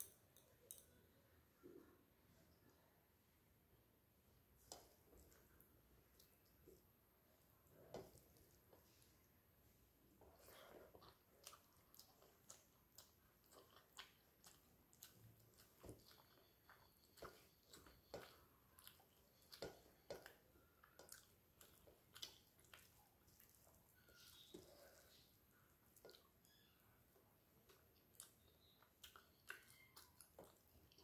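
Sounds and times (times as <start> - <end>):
person chewing with wet mouth sounds: 4.4 - 31.0.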